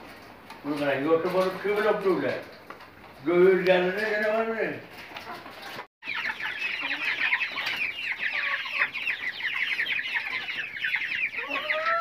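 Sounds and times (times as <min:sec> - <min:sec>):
chickens peeping: 0:00.1 - 0:12.0.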